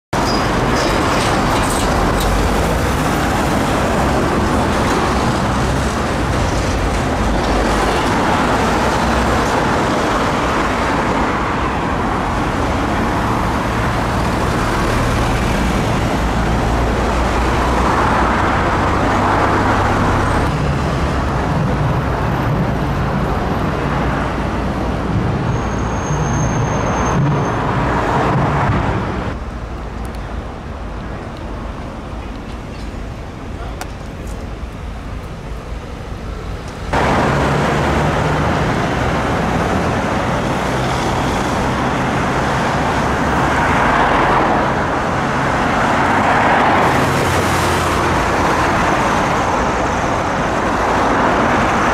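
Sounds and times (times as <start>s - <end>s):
dense road traffic rumble: 0.1s - 51.9s.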